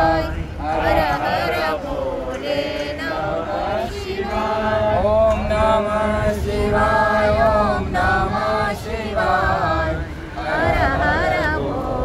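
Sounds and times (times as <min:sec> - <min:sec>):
group chanting in unison: 0:00.0 - 0:12.0.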